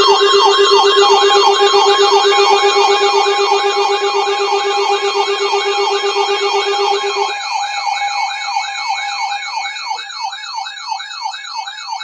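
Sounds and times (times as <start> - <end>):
low pulsing tone: 0.0 - 10.1
siren-like rising and falling sweep: 0.0 - 11.7.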